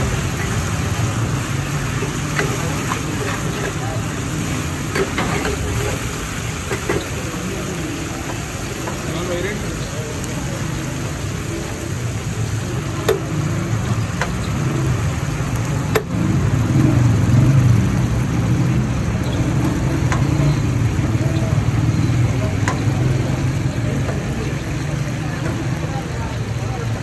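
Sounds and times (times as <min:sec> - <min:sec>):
oil and spices sizzling: 0:00.0 - 0:27.0.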